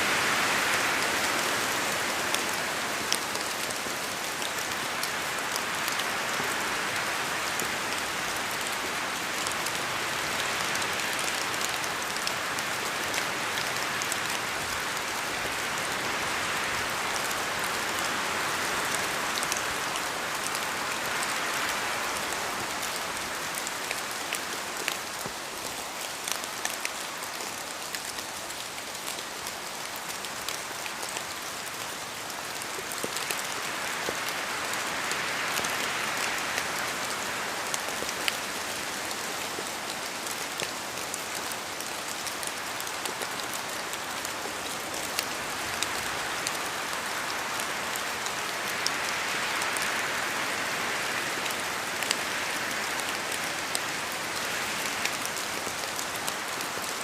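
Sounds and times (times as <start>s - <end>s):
rain falling in forest: 0.0s - 57.0s.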